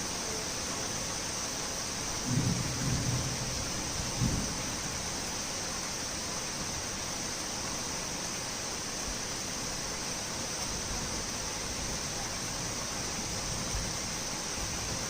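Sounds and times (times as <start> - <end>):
torrential rain hissing: 0.0 - 15.0.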